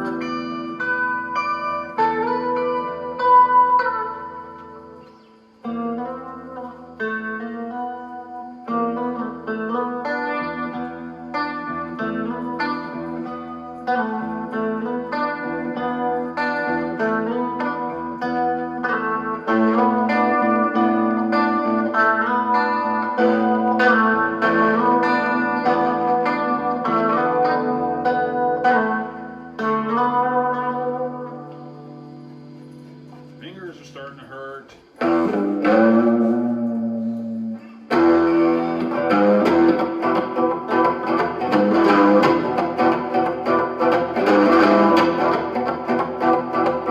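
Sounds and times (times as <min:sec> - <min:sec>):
electric guitar notes and chords: 0:00.0 - 0:46.9.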